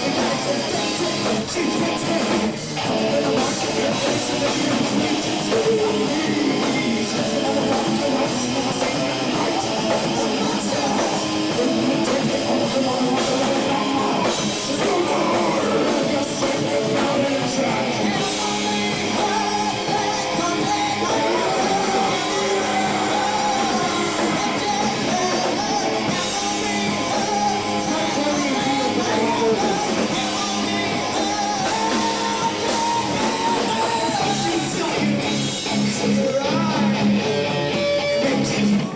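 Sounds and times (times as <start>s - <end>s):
heavy rock band playing: 0.0s - 38.9s.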